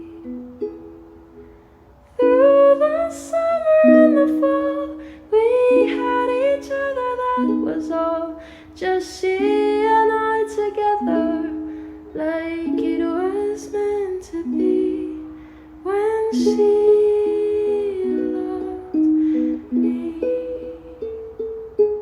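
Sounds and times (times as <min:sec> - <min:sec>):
person singing gentle song: 0:00.0 - 0:01.5, 0:02.1 - 0:22.0
plucked strings: 0:00.0 - 0:22.0.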